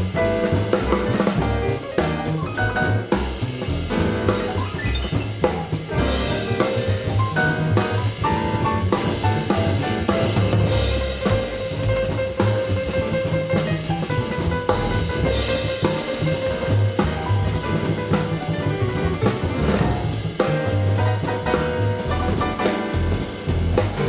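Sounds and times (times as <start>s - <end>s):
bass notes: 0.0s - 24.0s
drum kit cymbals: 0.0s - 24.0s
jazz piano: 0.0s - 24.0s.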